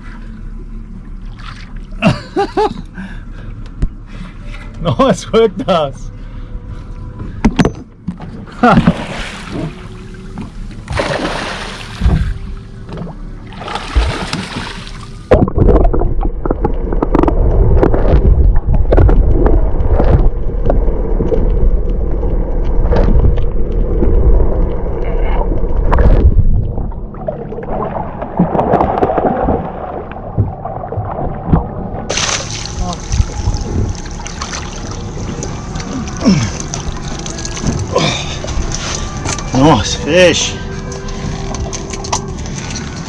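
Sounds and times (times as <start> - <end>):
low rumbling with small knocks: 0.0 - 39.6
water sloshing and gurgling: 0.0 - 43.0.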